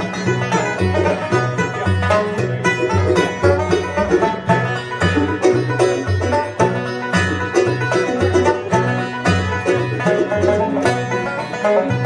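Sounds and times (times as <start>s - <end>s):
acoustic guitar: 0.0s - 12.0s
banjo: 0.0s - 12.0s
fiddle: 0.0s - 12.0s
mandolin: 0.0s - 12.0s
upright bass: 0.0s - 12.0s.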